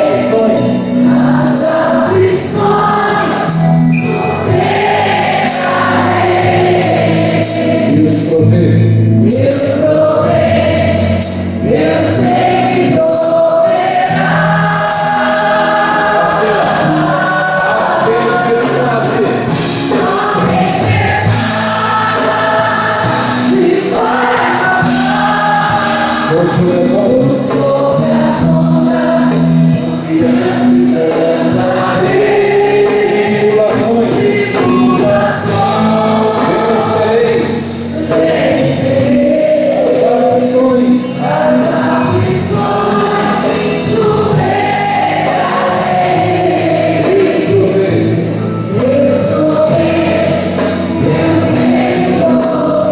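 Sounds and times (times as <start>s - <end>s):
group singing worship song: 0.0s - 52.9s
musical accompaniment with beat: 0.0s - 52.9s.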